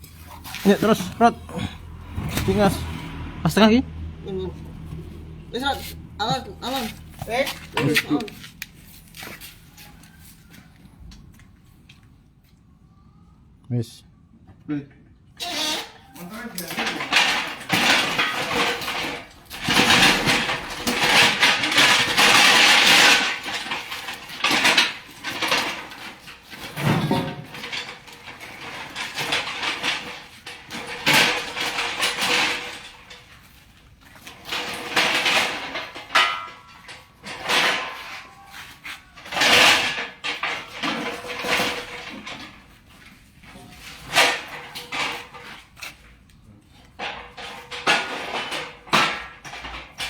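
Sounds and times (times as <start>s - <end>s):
metal scraping and clanking: 0.0s - 10.8s, 15.4s - 46.2s, 46.8s - 50.0s.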